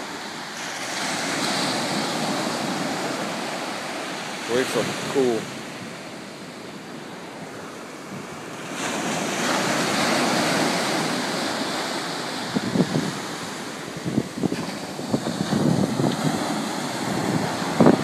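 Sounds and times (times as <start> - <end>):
small waves breaking on sand: 0.0 - 18.0
wind buffeting microphone: 0.8 - 18.0.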